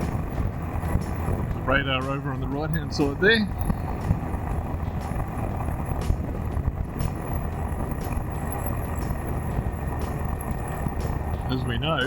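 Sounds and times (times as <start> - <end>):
low rumble of engine and road: 0.0 - 12.0
wind rushing over microphone: 0.0 - 12.0.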